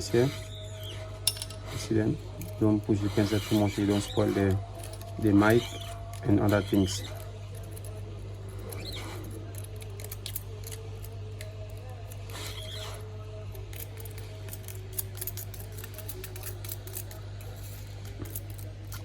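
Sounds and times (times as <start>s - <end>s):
tool clicking and scraping glass: 0.0s - 19.0s.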